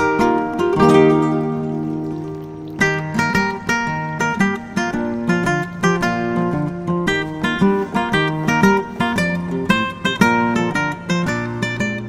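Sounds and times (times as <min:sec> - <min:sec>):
acoustic guitar plucking: 0:00.0 - 0:12.0.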